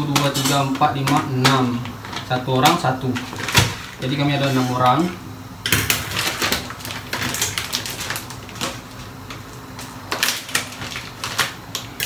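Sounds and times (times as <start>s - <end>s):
plastic packaging crinkling: 0.0s - 5.1s, 5.8s - 12.0s.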